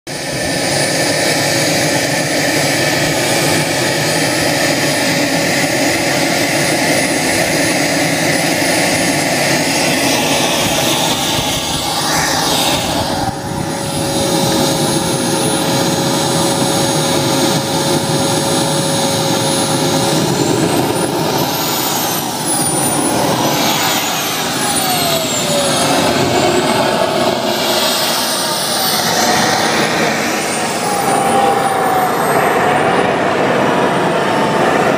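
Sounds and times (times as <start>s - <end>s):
model jet turbine whining: 0.1s - 34.9s.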